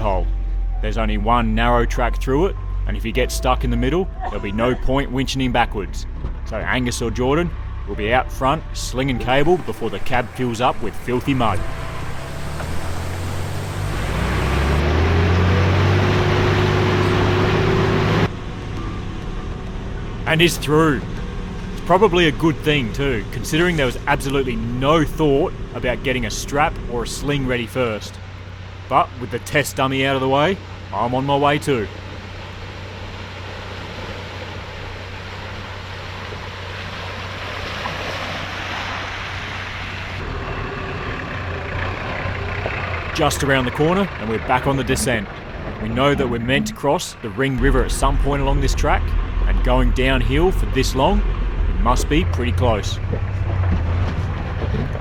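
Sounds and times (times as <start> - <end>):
vehicle engine under load: 0.0 - 55.0
mud and water splashing: 8.0 - 18.3, 20.3 - 55.0.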